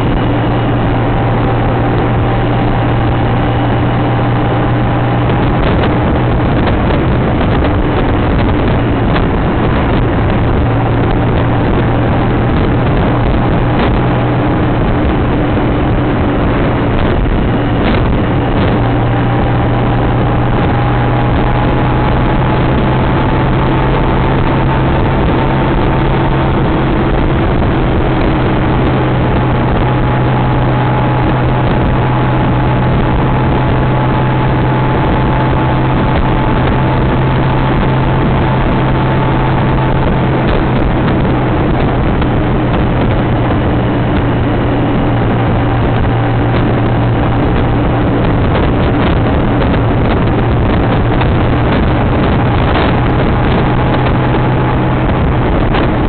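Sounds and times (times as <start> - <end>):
motorcycle engine low hum: 0.0 - 56.0
wind rushing on microphone: 0.0 - 56.0.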